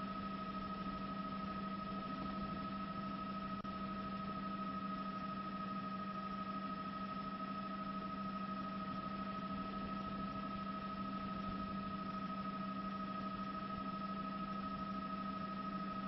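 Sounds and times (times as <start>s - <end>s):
steady tonal hum: 0.0s - 16.0s.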